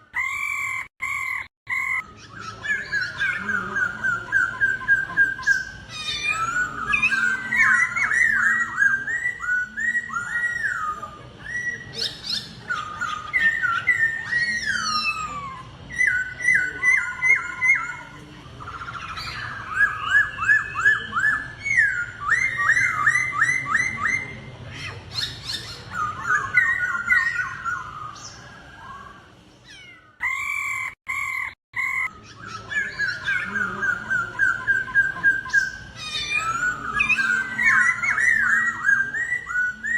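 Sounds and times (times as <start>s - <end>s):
bird singing whistled phrases: 0.1s - 24.4s, 25.1s - 29.2s, 30.2s - 39.9s.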